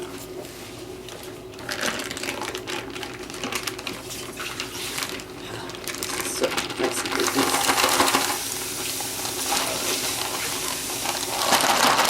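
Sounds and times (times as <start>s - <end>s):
whipped soap squelching and crackling: 0.0s - 12.0s.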